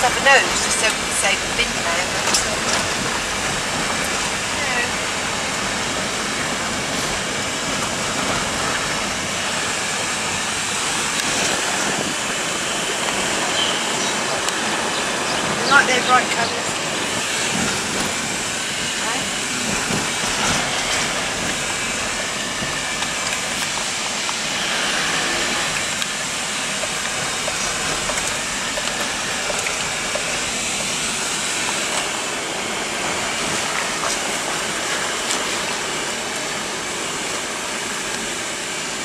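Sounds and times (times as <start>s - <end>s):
car road and air noise: 0.0s - 39.0s.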